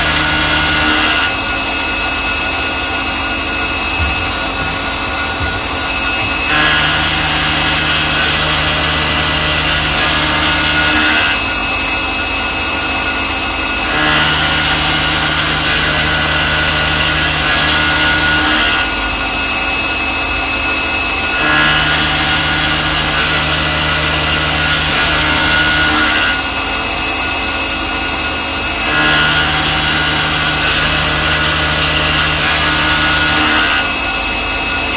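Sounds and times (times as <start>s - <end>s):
milling machine running with hiss: 0.0s - 34.9s.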